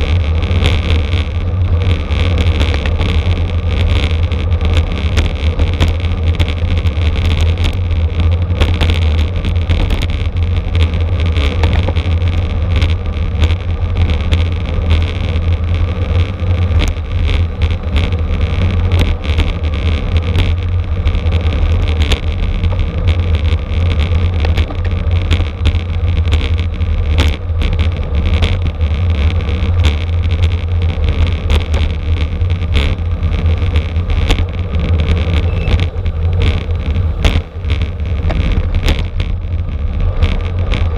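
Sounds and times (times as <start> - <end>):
bicycle road rumble: 0.0 - 40.9.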